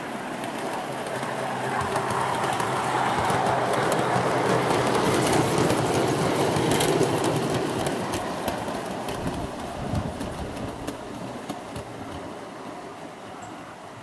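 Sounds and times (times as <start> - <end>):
model train wheels rumbling on rail: 0.0 - 14.0
clicks over rail joints: 0.3 - 12.4.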